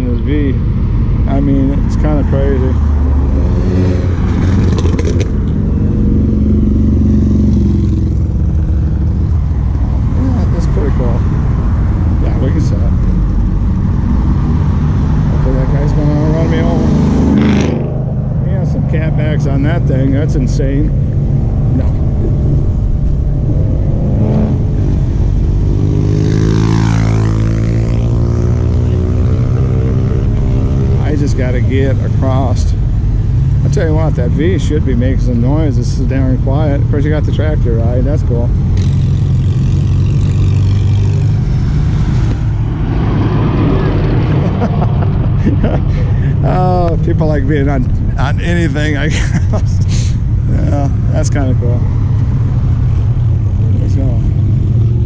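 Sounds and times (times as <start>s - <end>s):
car engine rumbling past: 0.0s - 55.0s
vehicle passing close by: 0.7s - 34.2s, 38.5s - 49.4s.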